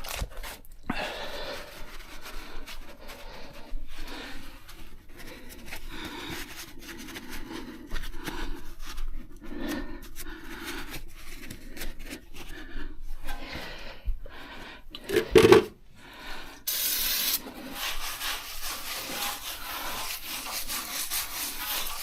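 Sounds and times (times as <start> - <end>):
rubbing and scraping strokes: 1.2 - 13.6, 16.7 - 22.0.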